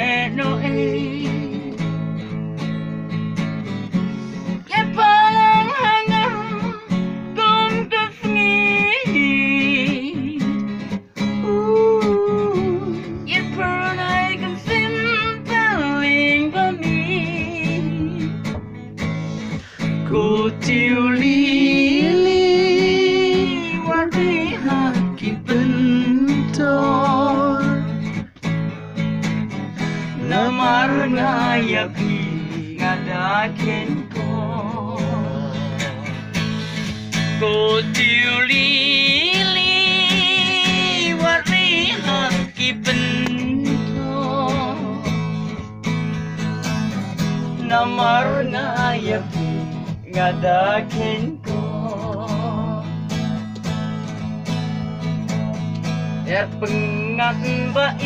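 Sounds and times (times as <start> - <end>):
guitar strumming chords: 0.0 - 58.0.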